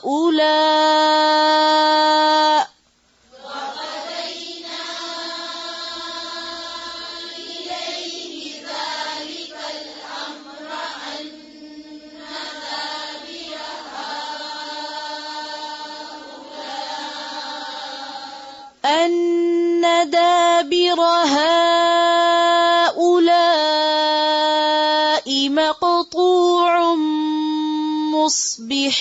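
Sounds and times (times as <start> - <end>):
person chanting recitation: 0.0 - 29.0.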